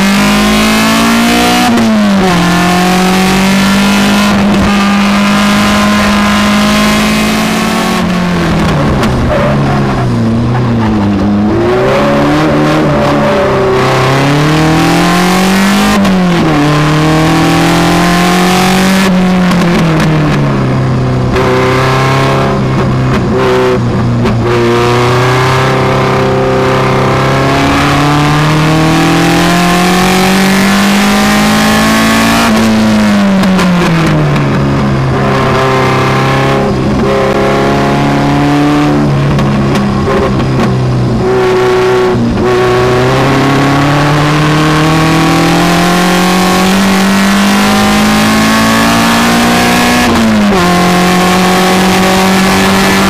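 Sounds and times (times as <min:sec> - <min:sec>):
sports car engine accelerating: 0:00.0 - 0:53.0.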